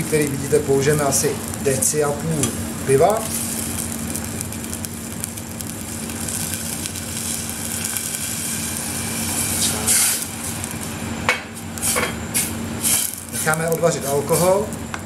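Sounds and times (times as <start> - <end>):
beer pouring: 0.0 - 14.9
sauce sizzling and bubbling: 0.0 - 15.0.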